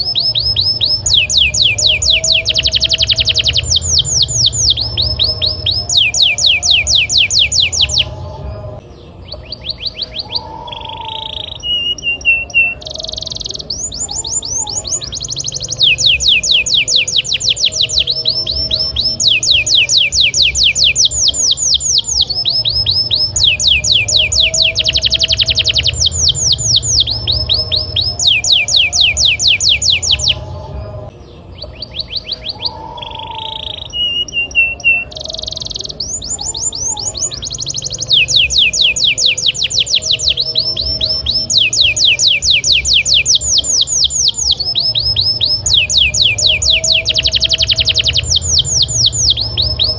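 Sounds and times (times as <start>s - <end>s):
low hum: 0.0s - 10.2s, 13.9s - 31.8s, 36.3s - 49.9s
canary singing: 0.0s - 49.9s.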